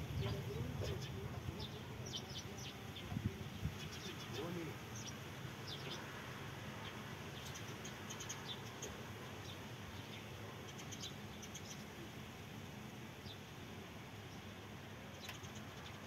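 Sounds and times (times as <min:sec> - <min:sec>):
small birds chirping: 0:00.0 - 0:16.0
steady background hiss: 0:00.0 - 0:16.0.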